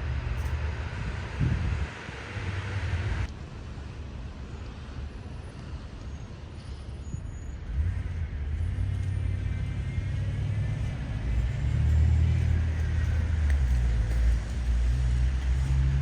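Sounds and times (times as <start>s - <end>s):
heavy vehicle engine: 0.0s - 16.0s
road traffic rumble: 0.0s - 16.0s.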